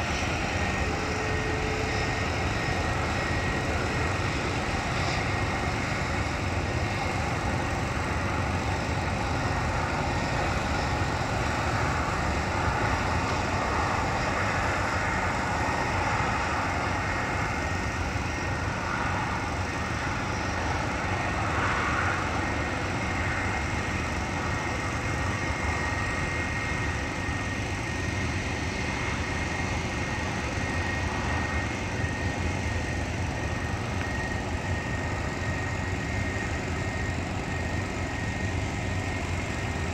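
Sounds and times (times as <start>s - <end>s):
high engine whine: 0.0s - 39.9s
jet engine rumble: 0.0s - 39.9s.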